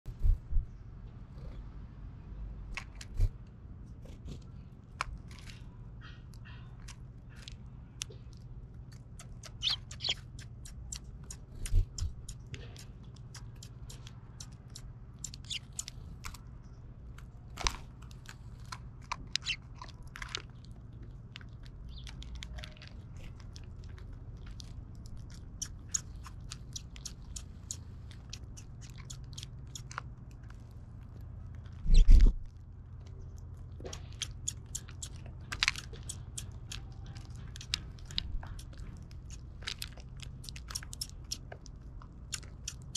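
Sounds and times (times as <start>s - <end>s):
birds pecking and cracking seed: 2.4s - 42.9s.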